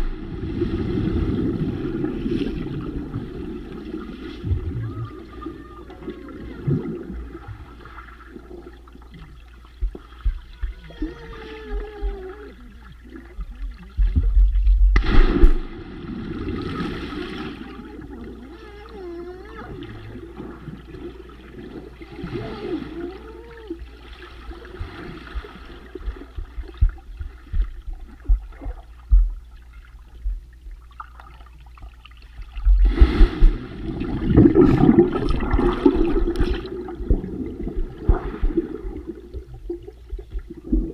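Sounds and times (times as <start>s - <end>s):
low underwater rumble: 0.0s - 40.9s
splashing and bubbles: 0.0s - 40.9s
underwater sloshing and gurgling: 0.0s - 40.9s.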